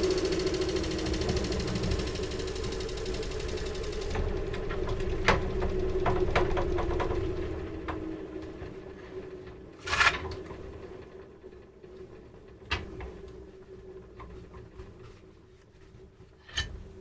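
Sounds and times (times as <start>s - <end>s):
woodworking machine motor humming: 0.0s - 14.1s.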